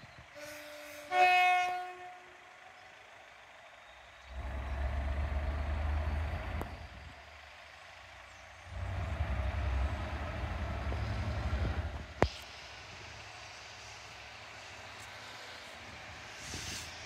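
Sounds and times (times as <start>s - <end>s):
diesel freight train approaching: 0.0s - 17.0s.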